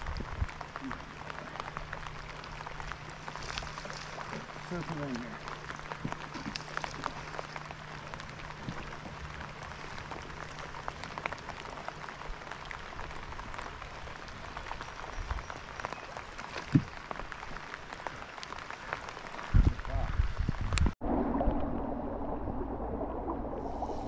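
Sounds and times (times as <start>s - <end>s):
rain falling on water: 0.0s - 24.0s.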